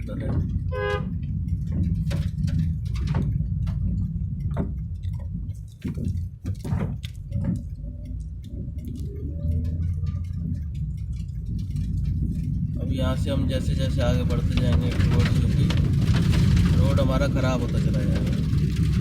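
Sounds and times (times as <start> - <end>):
car driving heard from cabin: 0.0 - 19.0.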